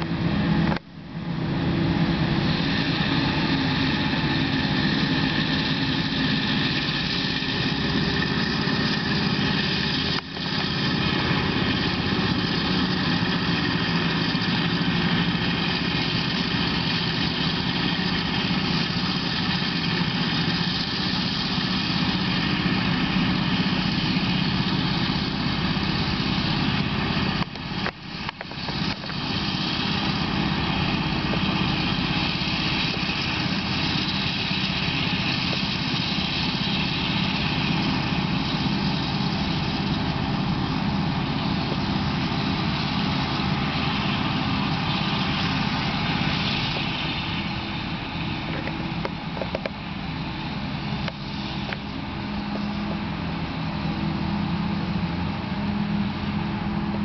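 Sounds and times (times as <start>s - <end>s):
tractor engine drone: 0.0s - 57.0s.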